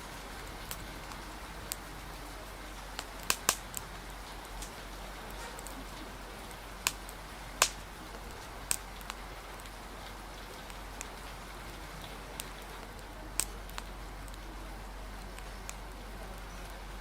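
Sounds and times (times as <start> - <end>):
rain hissing: 0.0 - 17.0
wood fire crackling pops: 0.0 - 17.0.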